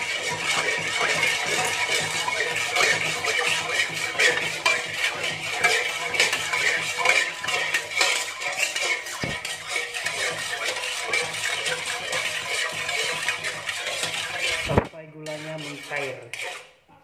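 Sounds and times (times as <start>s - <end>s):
metal spoon scraping a wok: 0.0s - 17.0s.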